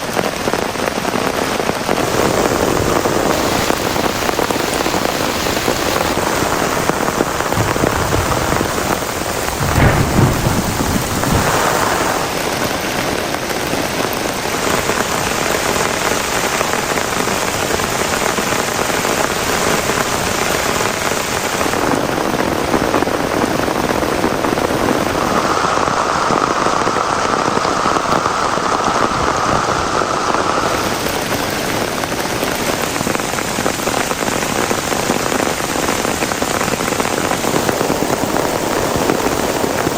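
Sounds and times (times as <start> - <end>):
heavy rain falling: 0.0 - 39.9
thunder rumbling: 1.8 - 35.4, 37.4 - 39.9.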